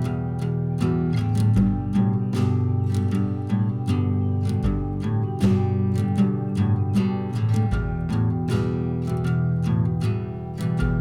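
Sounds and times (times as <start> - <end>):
acoustic guitar plucked and strummed: 0.0 - 11.0.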